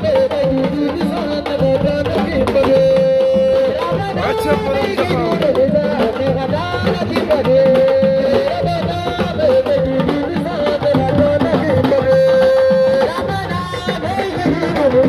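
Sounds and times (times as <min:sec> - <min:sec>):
fast hand drums: 0:00.0 - 0:15.0.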